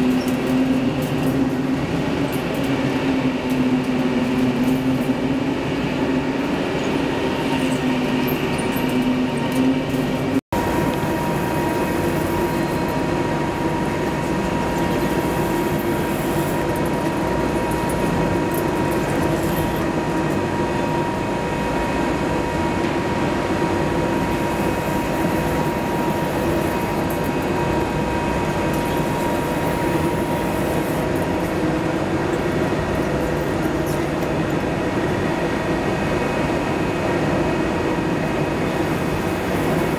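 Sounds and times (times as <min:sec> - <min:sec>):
lathe mechanical drone: 0:00.0 - 0:39.9
steady hum: 0:00.0 - 0:39.9
thin high whine: 0:00.0 - 0:39.9.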